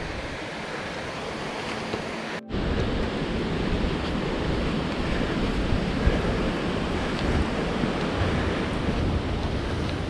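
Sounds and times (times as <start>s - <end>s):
creek rapids rushing: 0.0s - 10.0s
wind buffeting microphone: 0.0s - 10.0s.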